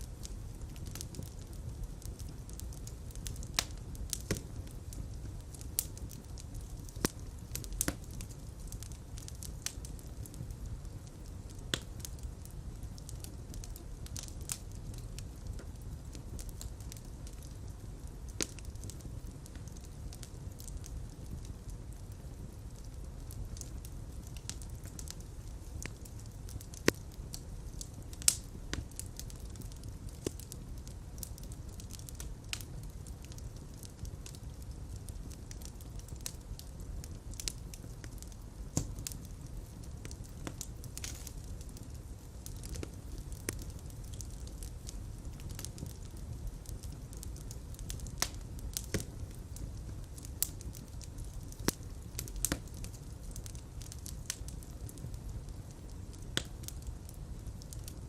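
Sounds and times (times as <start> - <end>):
fire crackling: 0.0 - 58.0
low rumble of flames: 0.0 - 58.0
sharp pops of fire: 0.1 - 58.0.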